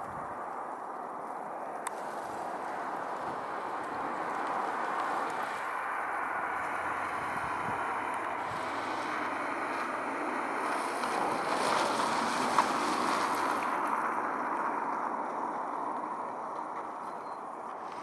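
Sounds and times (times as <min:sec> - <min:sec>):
vehicle passing: 0:01.8 - 0:18.0.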